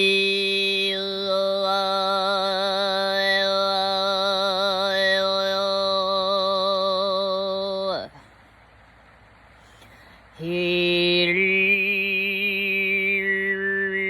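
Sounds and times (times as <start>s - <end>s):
throat singing low drone: 0.0s - 8.3s, 10.1s - 14.0s.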